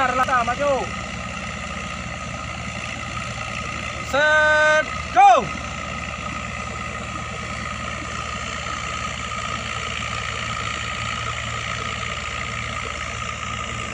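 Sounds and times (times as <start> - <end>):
motorboat engine running: 0.0 - 13.9
rushing water: 0.0 - 13.9.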